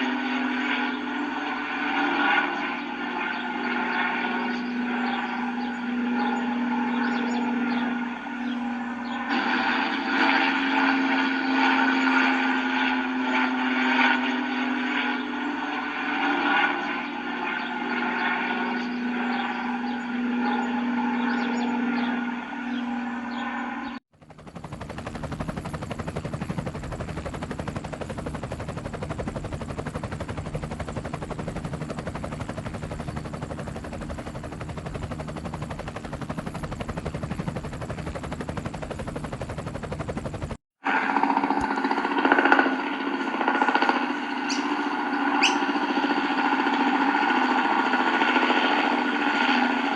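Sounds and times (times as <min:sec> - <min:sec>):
helicopter multi-tone whine: 0:00.0 - 0:49.9
helicopter rotor blade chop: 0:00.0 - 0:49.9.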